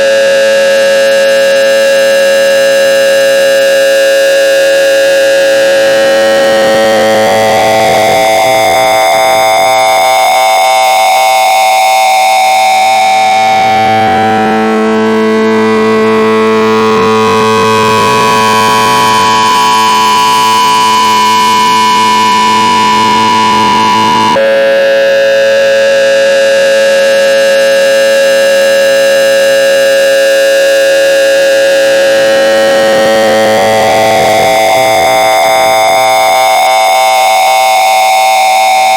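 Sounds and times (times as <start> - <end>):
harsh electronic multi-pitch tone: 0.0 - 38.9.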